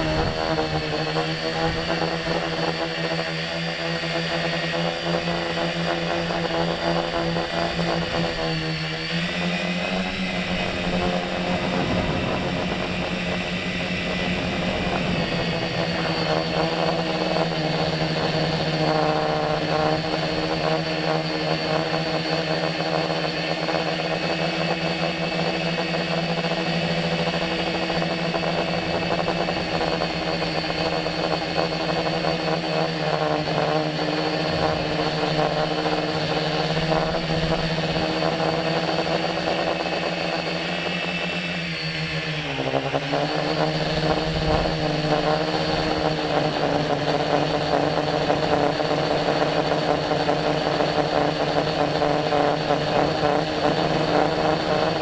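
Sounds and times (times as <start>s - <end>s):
drone motors and propellers humming: 0.0s - 55.0s.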